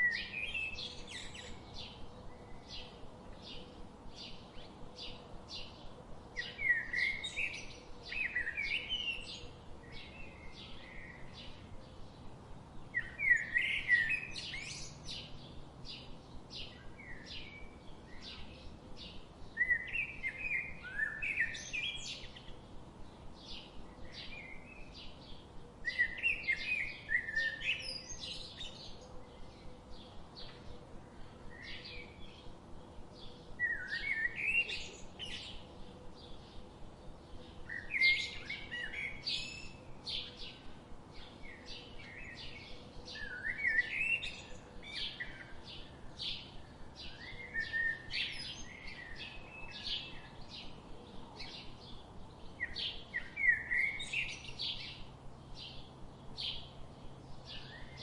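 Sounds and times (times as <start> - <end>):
bird warbling song: 0.0 - 58.0.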